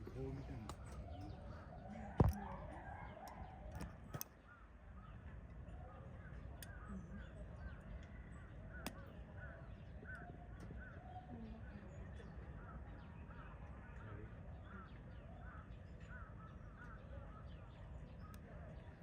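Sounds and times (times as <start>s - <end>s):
distant people talking: 0.0s - 4.2s, 5.4s - 19.0s
birds chirping: 0.0s - 19.0s.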